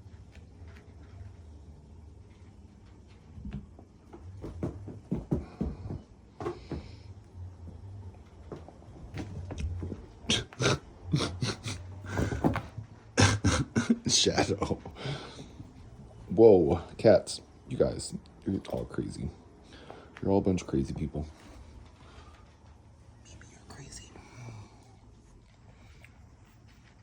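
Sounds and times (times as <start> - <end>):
cats scuffling: 0.0 - 23.2, 24.2 - 27.0.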